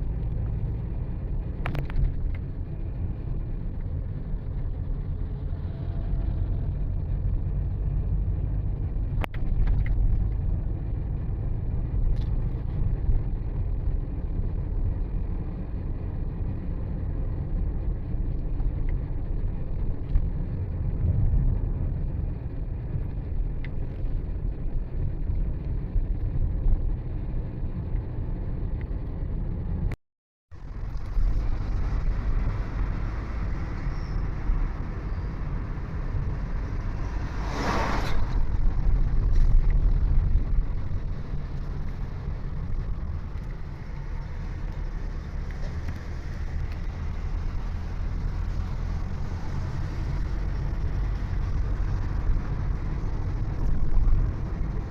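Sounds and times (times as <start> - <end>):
vehicle rumbling along road: 0.0 - 54.9.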